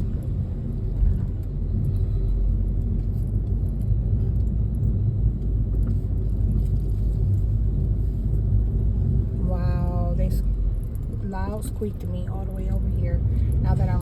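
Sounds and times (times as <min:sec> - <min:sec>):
car rumbling on road: 0:00.0 - 0:14.0.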